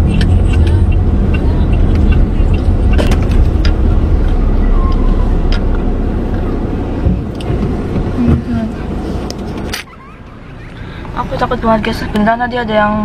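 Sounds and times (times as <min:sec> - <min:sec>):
low rumble inside car cabin: 0:00.0 - 0:13.0.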